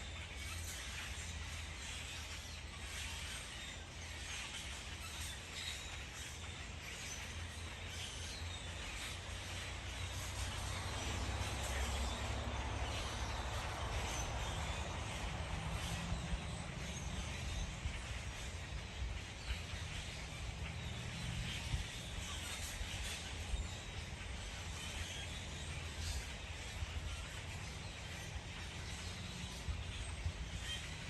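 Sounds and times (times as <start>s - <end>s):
faint birds: 0.0s - 31.0s.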